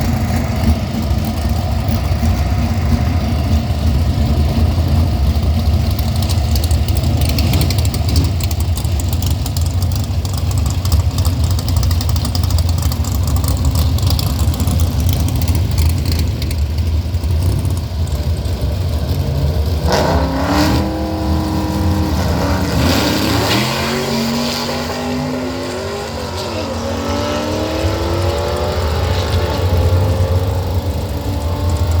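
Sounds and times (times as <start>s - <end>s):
low engine rumble: 0.0s - 22.8s, 25.1s - 32.0s
drag racing engines accelerating: 0.0s - 32.0s.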